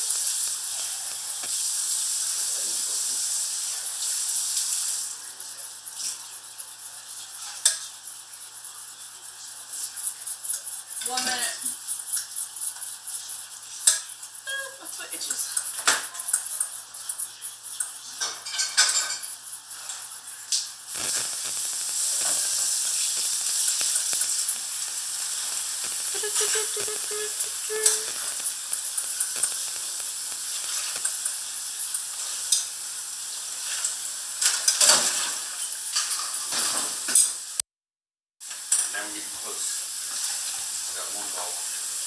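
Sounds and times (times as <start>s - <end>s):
food sizzling in a pan: 0.0s - 37.7s, 38.4s - 42.0s.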